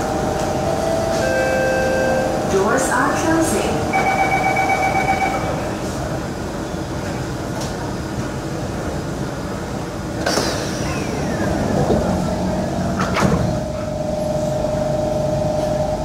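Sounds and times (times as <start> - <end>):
train air conditioning hum: 0.0 - 16.0.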